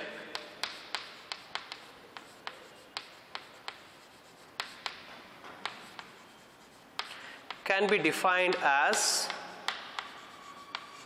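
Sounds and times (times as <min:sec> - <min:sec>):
chalk scratching: 0:00.0 - 0:11.0
chalk tapping on chalkboard: 0:00.0 - 0:11.0.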